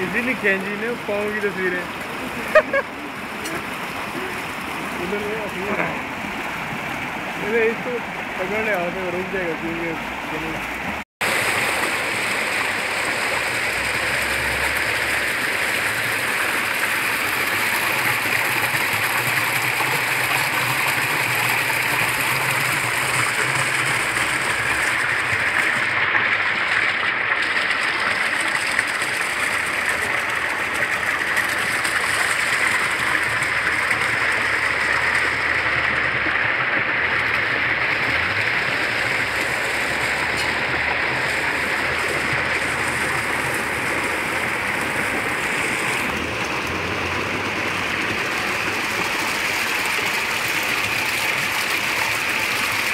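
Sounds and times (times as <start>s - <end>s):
water current running: 0.0s - 52.9s
water pouring from buckets: 0.0s - 52.9s.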